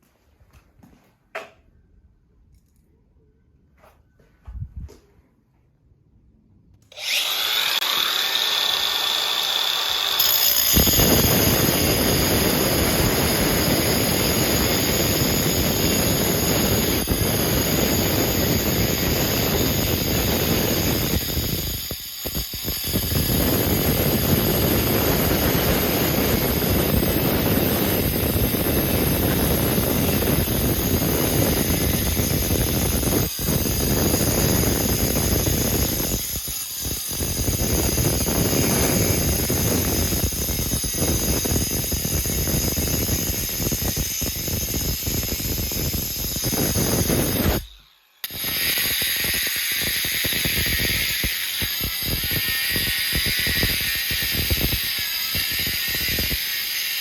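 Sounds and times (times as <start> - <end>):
power tool whining: 6.8 - 57.0.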